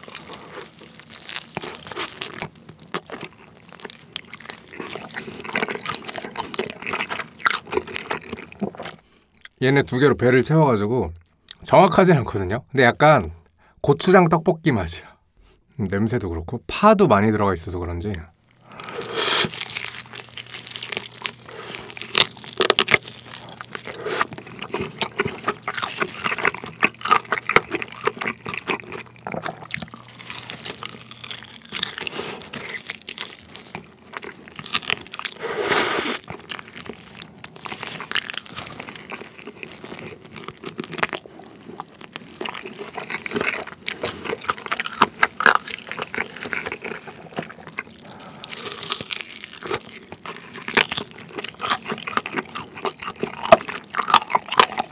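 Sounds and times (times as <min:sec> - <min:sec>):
crunching fried chicken: 0:00.0 - 0:09.6, 0:18.1 - 0:54.9
wet sticky chewing: 0:00.0 - 0:09.6, 0:18.6 - 0:54.9.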